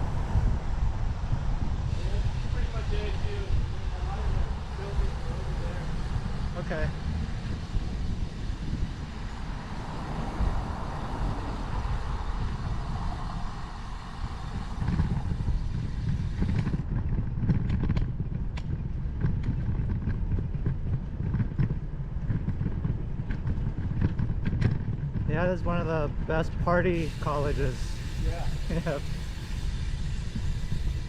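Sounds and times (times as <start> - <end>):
passing road traffic: 0.0 - 31.0
wind rumble on microphone: 0.0 - 31.0.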